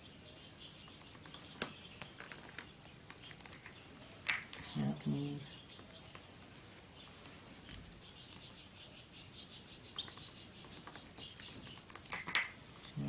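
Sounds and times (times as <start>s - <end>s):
lovebirds chirping: 0.0s - 13.0s.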